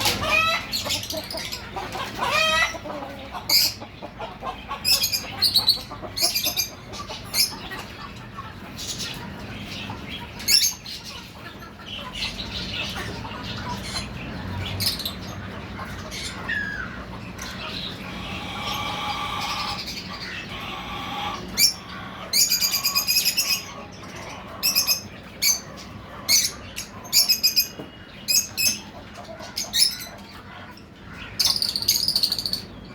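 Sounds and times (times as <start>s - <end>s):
lovebirds chattering: 0.0s - 32.9s
shrill bird chirps and squawks: 0.0s - 32.9s.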